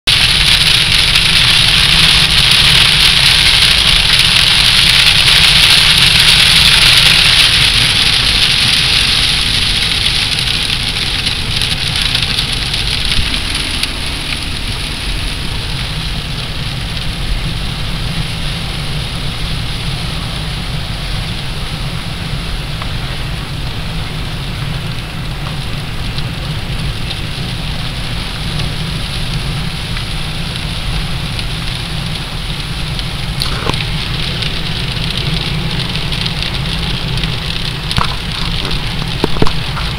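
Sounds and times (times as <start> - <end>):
low engine and road rumble: 0.0 - 39.9
rain on windscreen: 0.0 - 39.9
tyres hissing on wet asphalt: 0.1 - 39.9.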